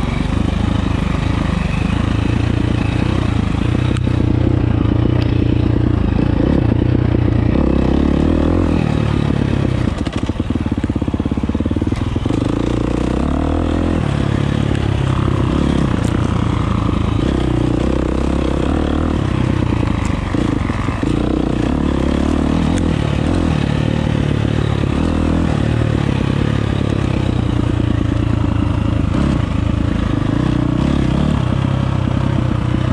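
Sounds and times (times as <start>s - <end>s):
dirt bike engine running: 0.0s - 32.9s.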